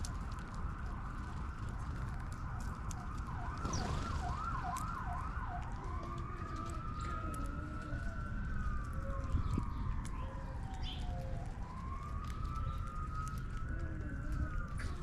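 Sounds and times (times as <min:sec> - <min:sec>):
emergency vehicle siren: 0:00.0 - 0:15.0.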